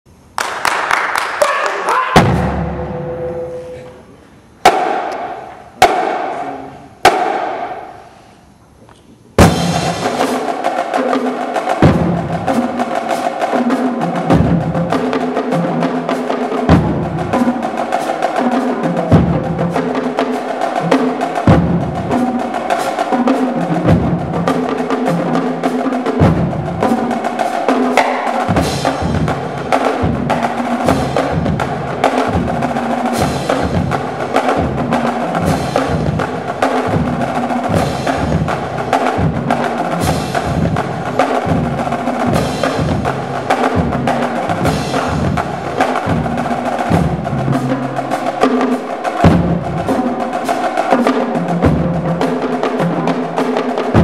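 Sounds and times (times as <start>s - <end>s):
marching drumline: 0.4s - 3.9s, 4.6s - 8.1s, 9.4s - 54.0s.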